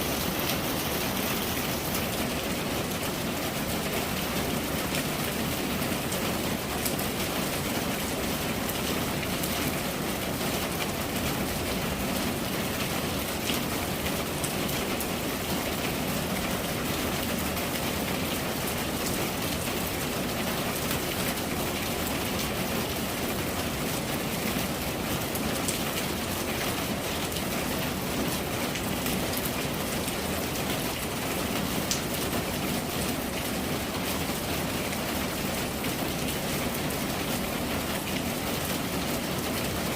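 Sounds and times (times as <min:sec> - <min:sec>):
rain drops tapping: 0:00.0 - 0:39.9.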